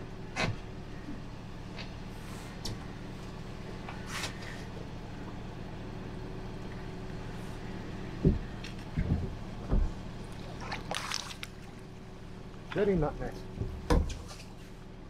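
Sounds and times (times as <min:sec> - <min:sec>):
boat engine idling: 0:00.0 - 0:13.9.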